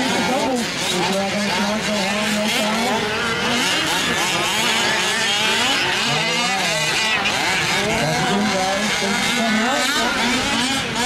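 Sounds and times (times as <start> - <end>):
small engines buzzing and revving: 0.0 - 11.0.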